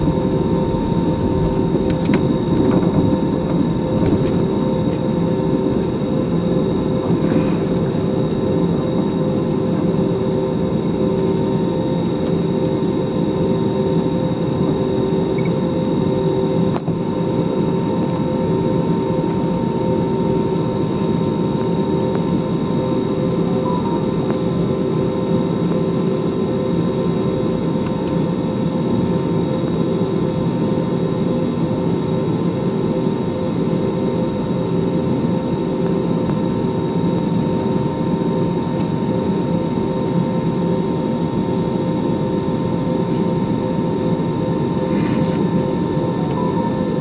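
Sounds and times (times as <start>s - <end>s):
jet engines idling in cabin: 0.0s - 47.0s.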